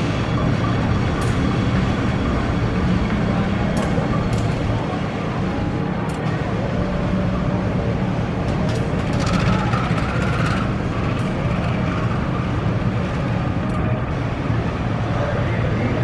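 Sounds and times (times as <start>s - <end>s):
diesel locomotive engine running: 0.0s - 16.0s.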